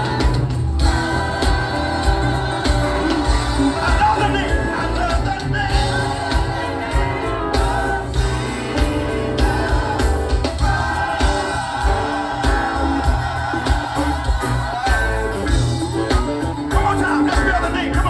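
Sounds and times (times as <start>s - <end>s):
choir singing in harmony: 0.0s - 16.2s
heavy bass line: 0.0s - 18.0s
steady drum beat: 0.0s - 18.0s.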